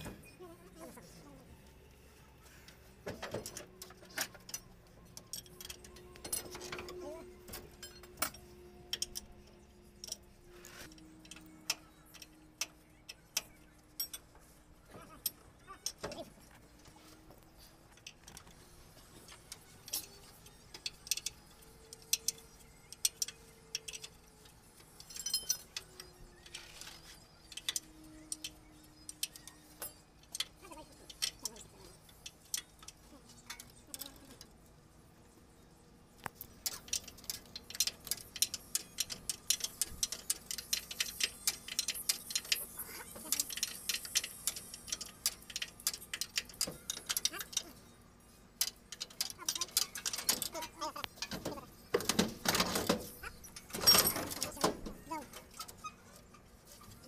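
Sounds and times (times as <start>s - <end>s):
wrench metal clicks and clinks: 3.2s - 14.4s, 19.2s - 34.6s, 36.2s - 55.9s.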